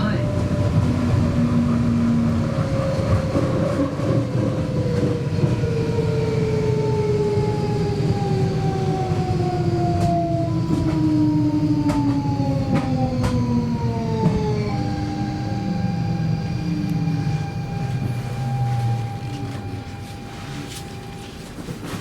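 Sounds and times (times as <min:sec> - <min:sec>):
train running noise: 0:00.0 - 0:22.0
train traction drive whining: 0:00.0 - 0:22.0.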